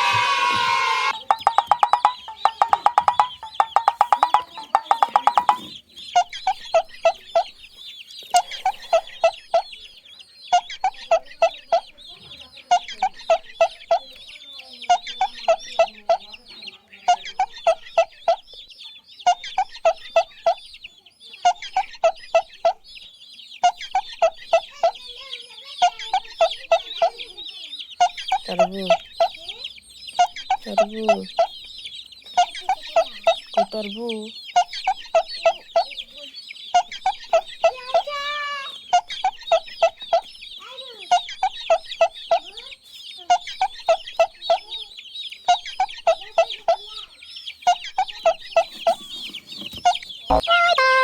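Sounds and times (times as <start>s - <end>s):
chickens clucking: 0.0s - 51.0s
chicks peeping: 0.0s - 51.0s.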